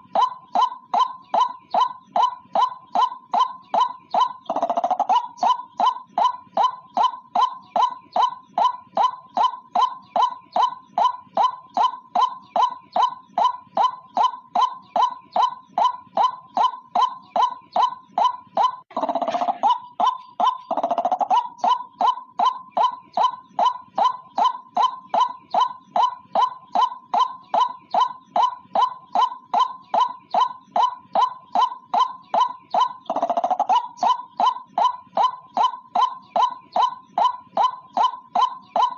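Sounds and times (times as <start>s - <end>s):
bird calling repeated notes: 0.0s - 38.9s.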